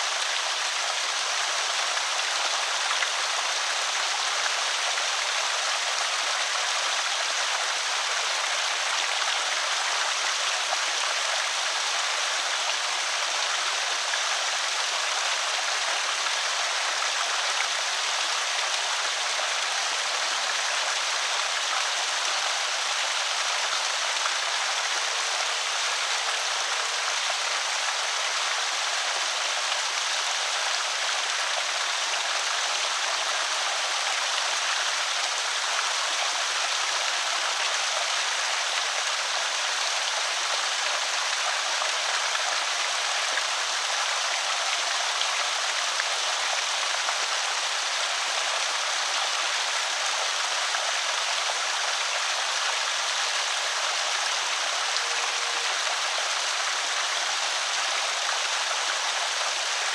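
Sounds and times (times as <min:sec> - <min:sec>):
water pouring over spillway: 0:00.0 - 0:59.9.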